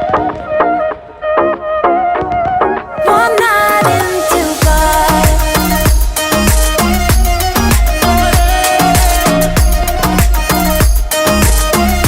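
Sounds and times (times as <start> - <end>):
upbeat dance music: 0.0 - 12.0.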